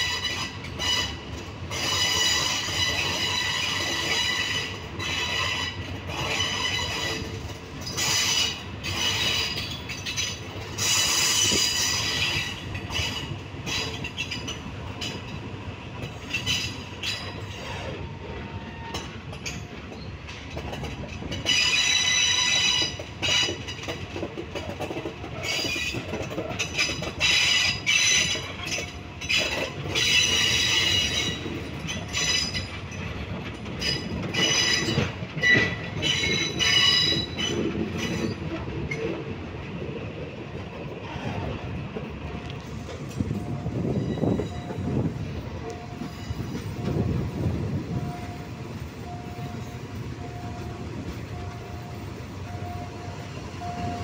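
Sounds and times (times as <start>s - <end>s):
train carriage rumbling over track: 0.0s - 54.0s
train wheels squealing on rails: 0.0s - 54.0s.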